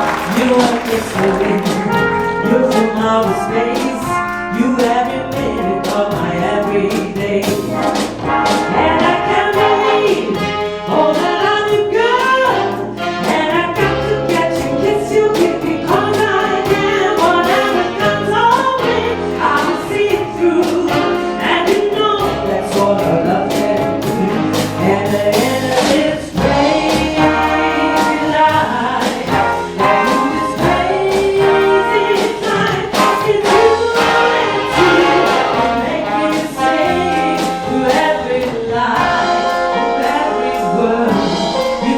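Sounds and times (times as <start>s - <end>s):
big band playing: 0.0s - 41.9s.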